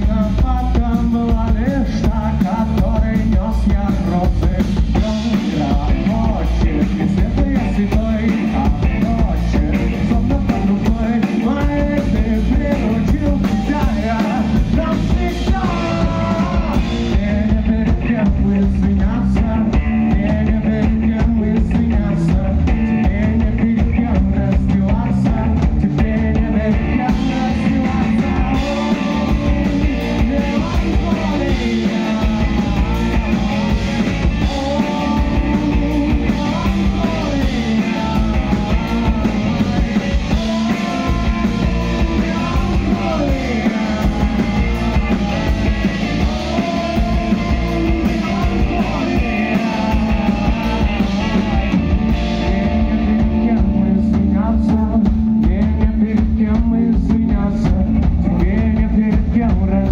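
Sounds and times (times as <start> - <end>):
man singing: 0.0 - 59.9
rock band playing: 0.0 - 59.9.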